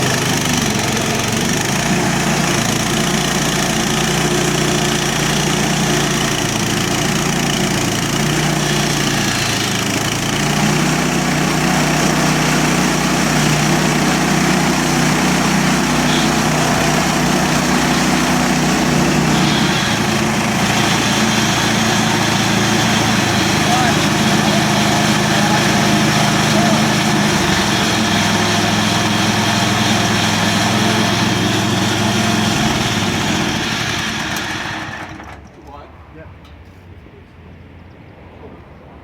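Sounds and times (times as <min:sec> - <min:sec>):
sawmill gasoline engine running: 0:00.0 - 0:35.9.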